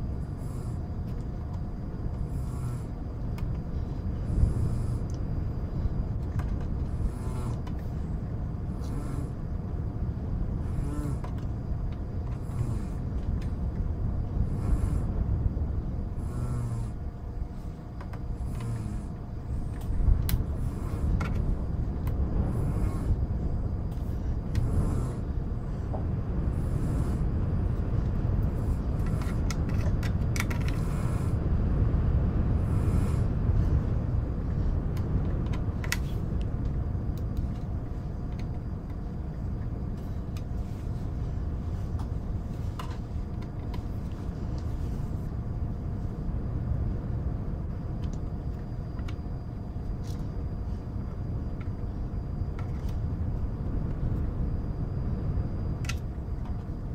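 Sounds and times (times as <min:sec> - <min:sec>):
low wind rumble: 0:00.0 - 0:56.9.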